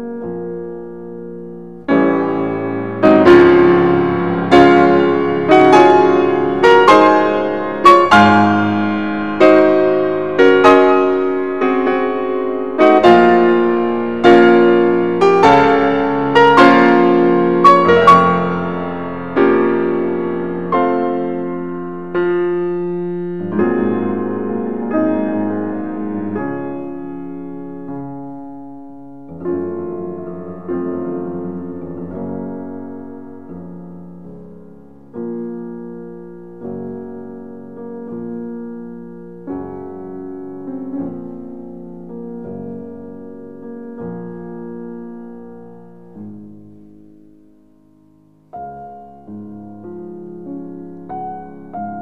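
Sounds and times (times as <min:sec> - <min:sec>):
slow gentle piano chords: 0:00.0 - 0:52.0.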